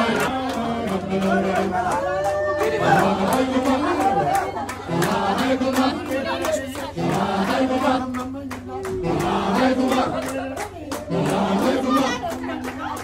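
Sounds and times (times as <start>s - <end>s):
group singing in chorus: 0.0s - 13.0s
rhythmic clapping: 0.0s - 13.0s.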